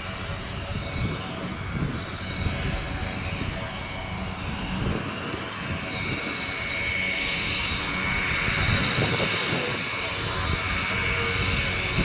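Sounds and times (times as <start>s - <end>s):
turboprop engine whine: 0.0s - 12.0s.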